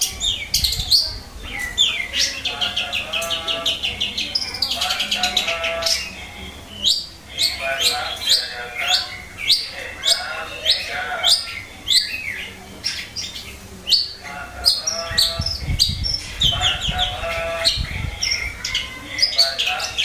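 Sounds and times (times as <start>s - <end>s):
bird chattering: 0.0s - 20.0s.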